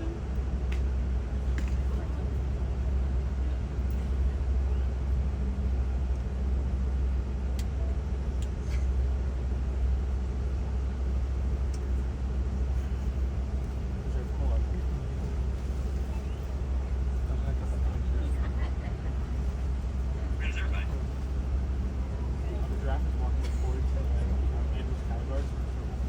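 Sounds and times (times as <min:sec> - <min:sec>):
truck engine low rumble: 0:00.0 - 0:26.0.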